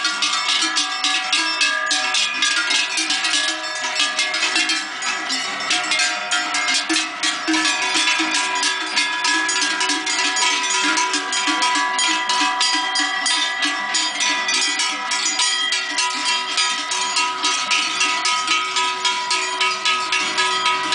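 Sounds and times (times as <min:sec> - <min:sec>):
cowbells clanking: 0:00.0 - 0:20.9.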